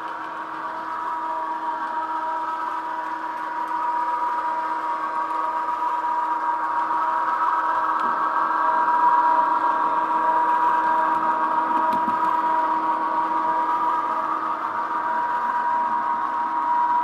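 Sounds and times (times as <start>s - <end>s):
model train motor whine: 0.0s - 17.0s.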